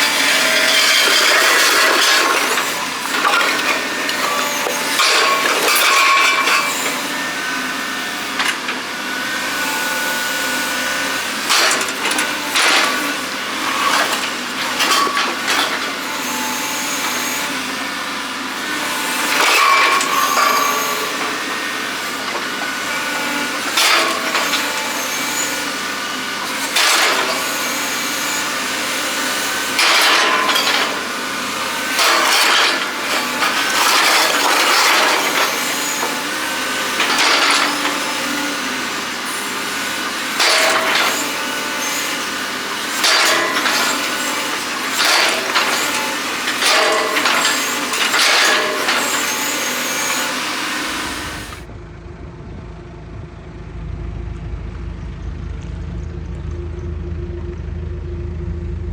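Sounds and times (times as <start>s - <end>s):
metal squealing on concrete: 0.0s - 51.6s
metal tines scraping concrete: 0.0s - 51.7s.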